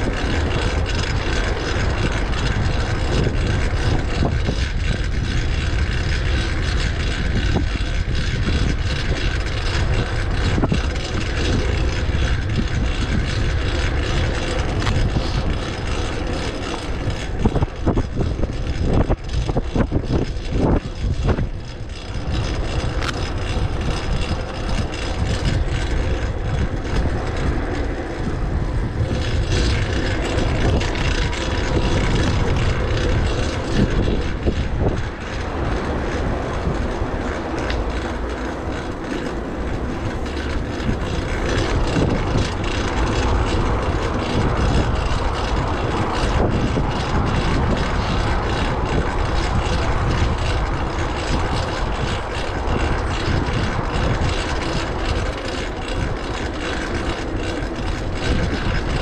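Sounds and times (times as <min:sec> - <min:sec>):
bicycle chain drivetrain: 0:00.0 - 0:59.0
wind and road noise: 0:00.0 - 0:59.0.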